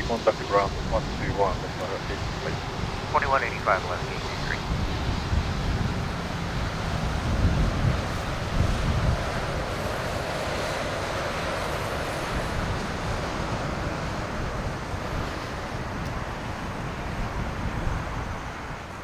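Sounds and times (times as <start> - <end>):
jet engine roar: 0.0 - 19.0
wind buffeting microphone: 0.0 - 19.0.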